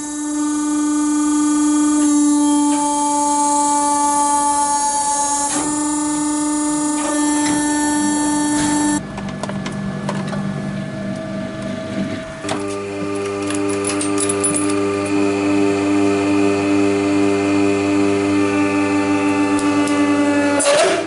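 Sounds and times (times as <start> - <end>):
crimping machine motor humming: 0.0 - 21.0.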